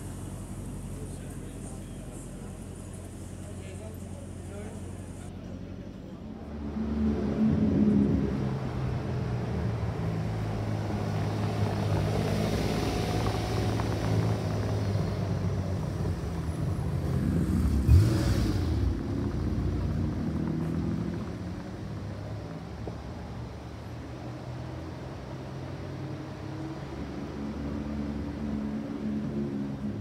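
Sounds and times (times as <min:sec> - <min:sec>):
car engine droning at low revs: 0:00.0 - 0:30.0.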